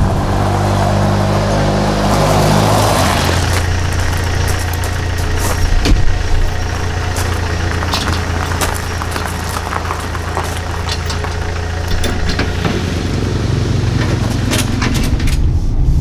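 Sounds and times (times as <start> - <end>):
car engine running: 0.0 - 15.8.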